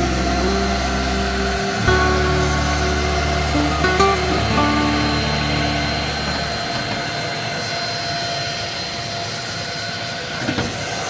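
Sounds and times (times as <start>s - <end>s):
high motor whine: 0.0s - 9.9s
vacuum cleaner running: 0.0s - 10.6s.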